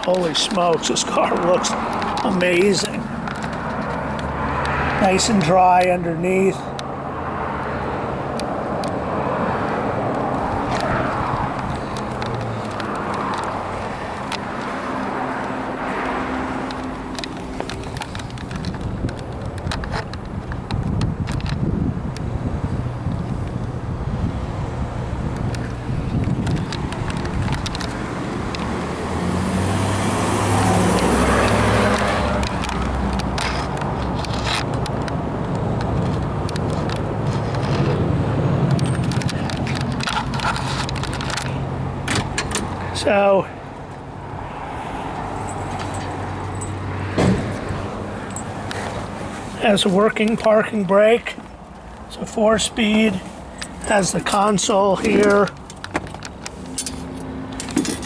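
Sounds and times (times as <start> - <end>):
passing vehicles: 0.0 - 58.0
traffic rumble: 0.0 - 58.0.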